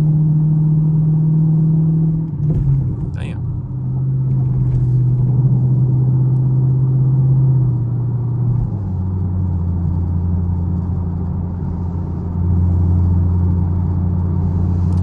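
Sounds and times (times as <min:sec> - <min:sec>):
car engine running: 0:01.7 - 0:15.0.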